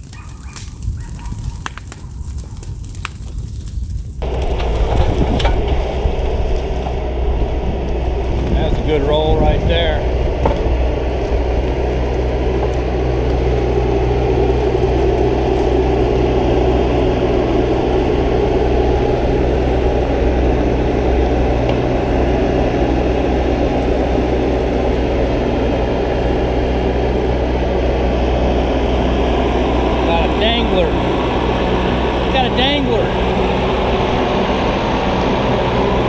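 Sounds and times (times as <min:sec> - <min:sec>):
diesel engine running steadily: 0:04.1 - 0:36.0.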